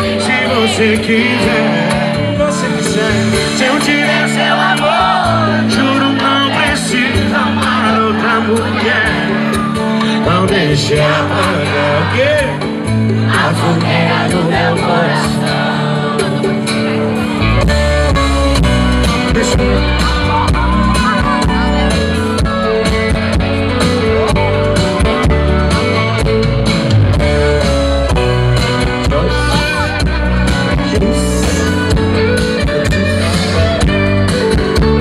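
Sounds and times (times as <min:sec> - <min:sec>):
guitar: 0:00.0 - 0:35.0
live band instrumental: 0:00.0 - 0:35.0.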